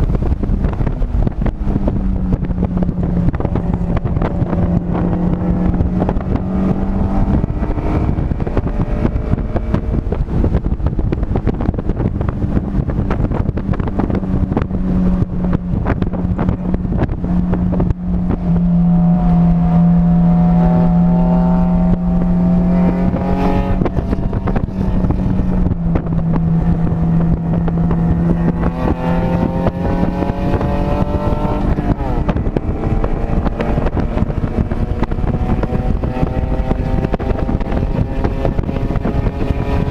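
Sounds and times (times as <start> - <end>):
racing car engine accelerating: 0.0 - 39.9
wind noise: 0.0 - 39.9.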